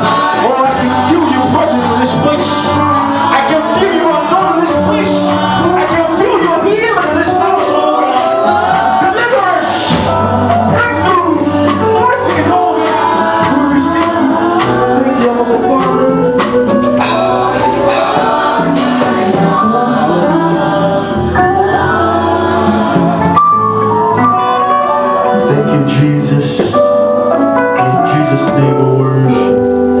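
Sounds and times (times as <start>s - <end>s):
steady drum beat: 0.0s - 24.2s
gospel singing: 0.0s - 30.0s
instrumental accompaniment: 0.0s - 30.0s.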